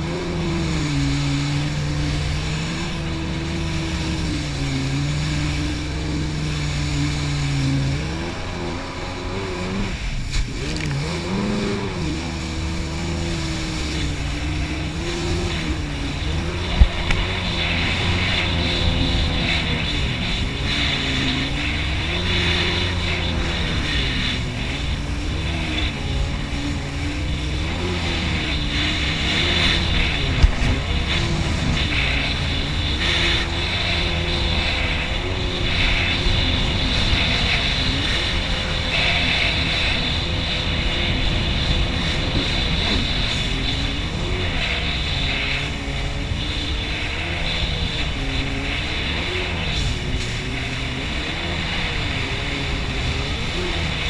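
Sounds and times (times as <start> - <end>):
rushing spray and wind: 0.0 - 54.0
watercraft engine running: 0.0 - 54.0.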